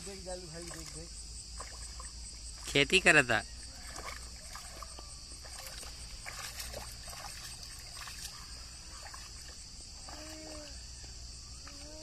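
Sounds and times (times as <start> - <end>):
crickets droning: 0.0 - 12.0
muddy water splashing: 0.0 - 12.0.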